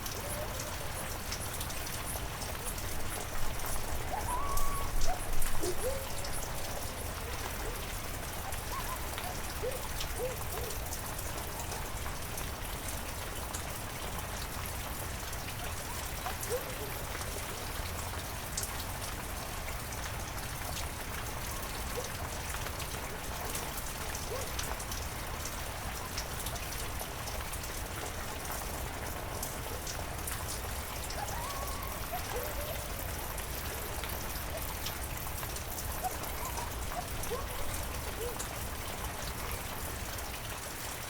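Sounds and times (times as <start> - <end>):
heavy rain pattering: 0.0 - 41.0.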